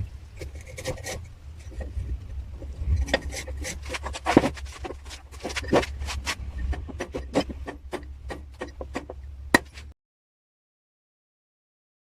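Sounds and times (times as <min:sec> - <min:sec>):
steady low hum: 0:00.0 - 0:10.0
tools scraping and knocking wood: 0:00.3 - 0:10.0.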